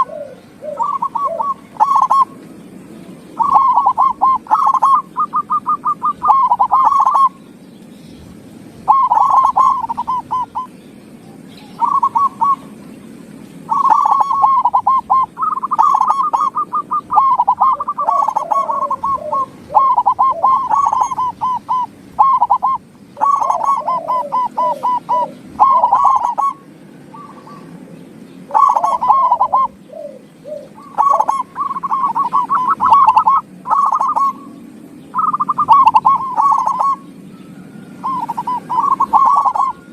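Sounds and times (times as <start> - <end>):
doves cooing: 0.0 - 7.6, 8.2 - 39.9.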